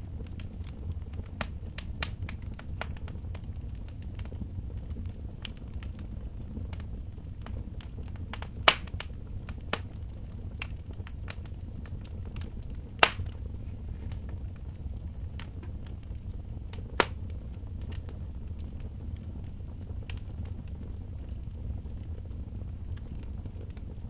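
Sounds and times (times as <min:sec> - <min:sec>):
fire crackling with snaps: 0:00.0 - 0:24.0
loud fire pops: 0:00.0 - 0:24.0
low fire rumble: 0:00.0 - 0:24.0.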